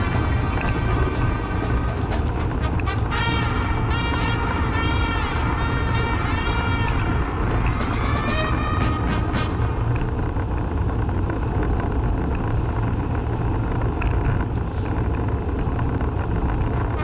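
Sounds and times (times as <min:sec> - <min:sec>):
tyre and wind rumble: 0:00.0 - 0:17.0.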